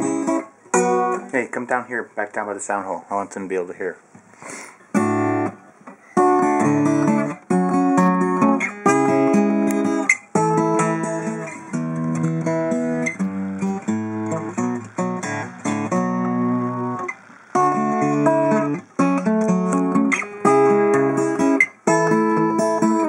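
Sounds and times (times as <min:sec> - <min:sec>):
acoustic guitar chords strummed: 0:00.0 - 0:01.9, 0:04.8 - 0:23.0.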